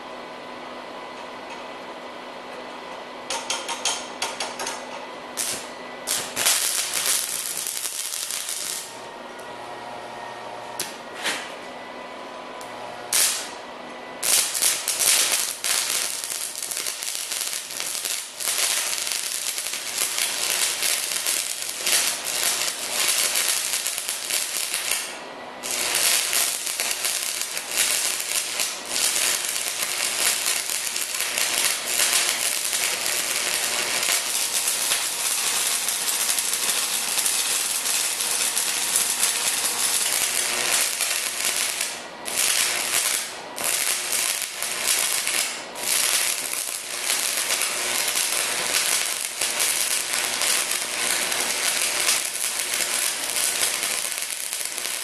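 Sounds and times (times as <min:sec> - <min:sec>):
welding arc crackling: 0:05.4 - 0:09.0, 0:13.1 - 0:13.6, 0:14.2 - 0:55.0.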